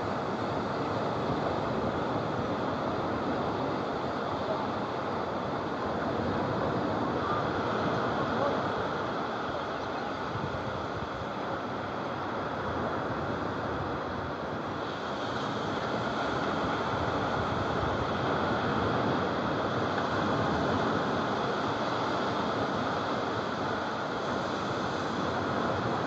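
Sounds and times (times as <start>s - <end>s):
surf breaking on a sandy beach: 0.0s - 26.0s.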